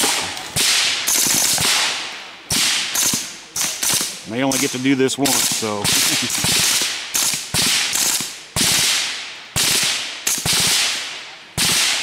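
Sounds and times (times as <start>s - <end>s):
suppressed gunshots: 0.0s - 12.0s.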